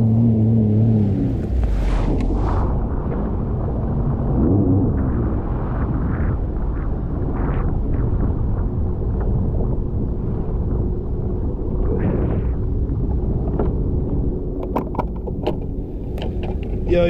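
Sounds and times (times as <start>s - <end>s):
jet ski engine drone: 0.0s - 17.0s
wind and water rumble on microphone: 0.0s - 17.0s.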